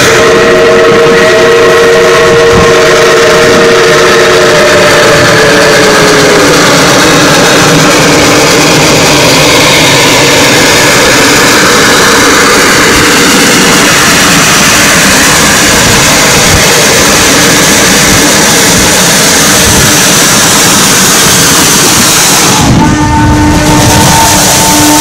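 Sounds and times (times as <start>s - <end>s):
train roaring past: 0.0s - 25.0s.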